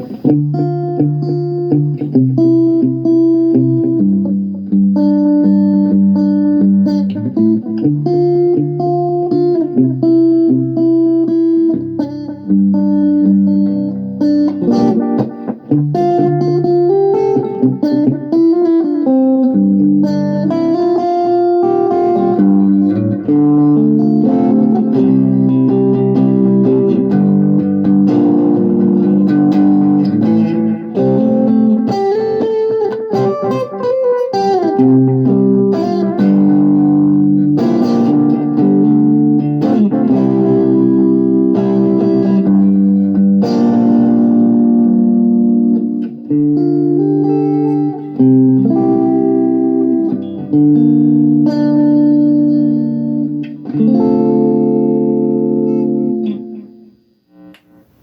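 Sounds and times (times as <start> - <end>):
electric guitar with delay: 0.0 - 58.0.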